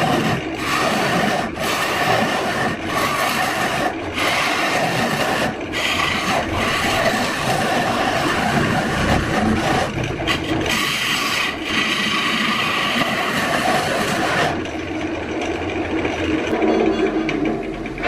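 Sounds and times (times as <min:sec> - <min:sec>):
tool scraping wood: 0:00.0 - 0:18.0.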